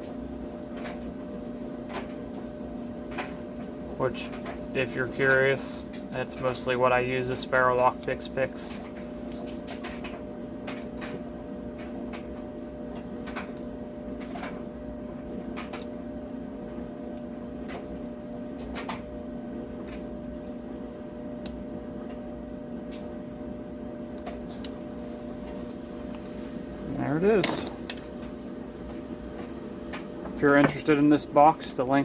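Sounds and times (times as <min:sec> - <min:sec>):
washer and dryer humming: 0:00.0 - 0:32.0.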